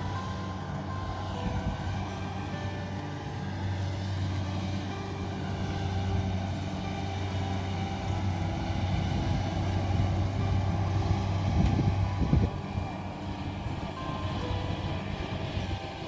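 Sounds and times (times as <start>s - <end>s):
combine harvester engine running: 0.0s - 16.0s
tractor engine idling: 0.0s - 16.0s.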